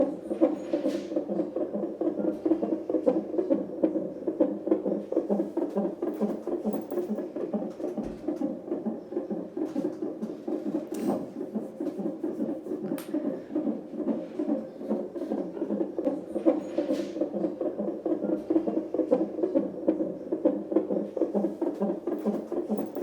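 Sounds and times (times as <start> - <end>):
fetal heartbeat pulses: 0.0 - 23.0.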